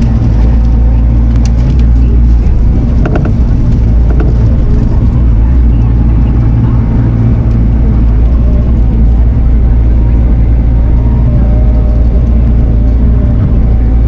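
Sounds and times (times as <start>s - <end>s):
diesel engine running: 0.0s - 14.0s
loud low drone: 0.0s - 14.0s.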